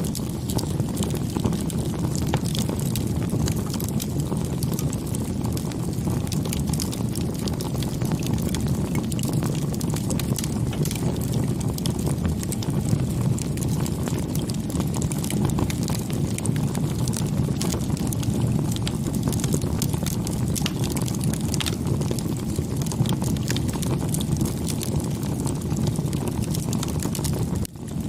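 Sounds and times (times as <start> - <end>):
flame rushing: 0.0 - 28.0
wood fire crackling and popping: 0.0 - 28.0.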